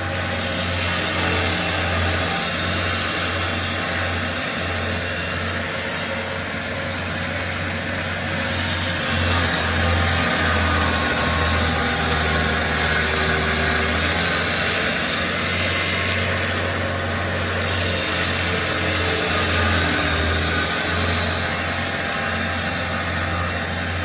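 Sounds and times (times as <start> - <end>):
stump grinder engine droning: 0.0 - 24.0.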